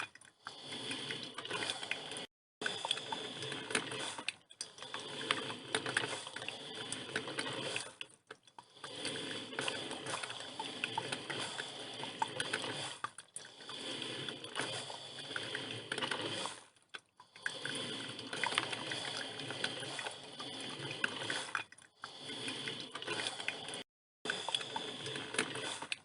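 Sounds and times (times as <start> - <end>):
coffee machine gurgling: 0.0 - 26.0
crackle of small bubbles: 0.0 - 26.0.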